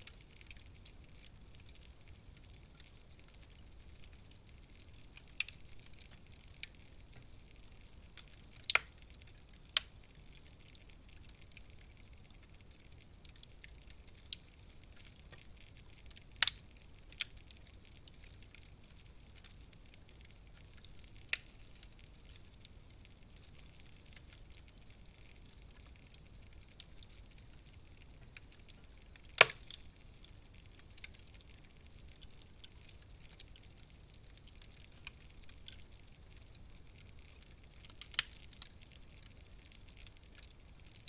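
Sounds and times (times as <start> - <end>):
fire popping and snapping: 0.0 - 41.0
wood fire hissing: 4.2 - 41.0.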